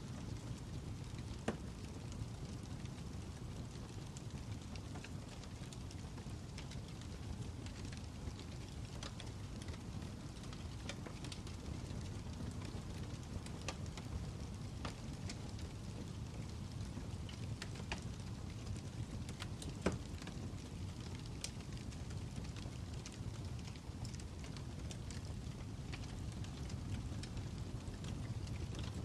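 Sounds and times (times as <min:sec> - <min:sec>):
low fire rumble: 0:00.0 - 0:29.0
fire crackling and popping: 0:00.1 - 0:29.0.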